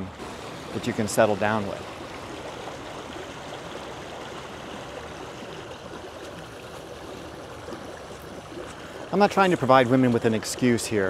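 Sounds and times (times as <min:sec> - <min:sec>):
creek running over stones: 0:00.0 - 0:11.0.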